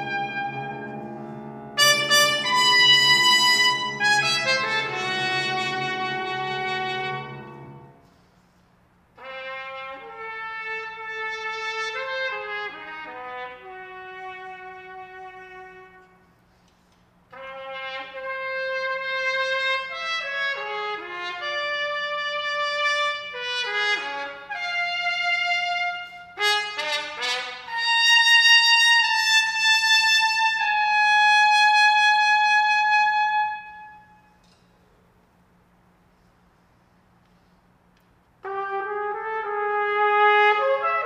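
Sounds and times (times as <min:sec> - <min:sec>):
solo trumpet: 0:00.0 - 0:16.6, 0:17.3 - 0:34.5, 0:38.4 - 0:41.0.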